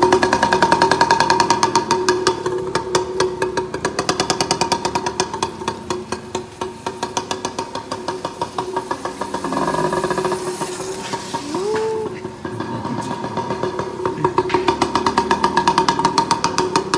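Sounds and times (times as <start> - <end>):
mini-bike engine popping: 0.0 - 16.9.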